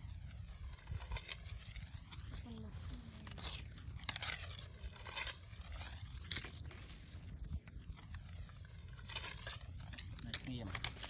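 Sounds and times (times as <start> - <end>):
leaves and twigs crackling in fire: 0.0 - 11.0.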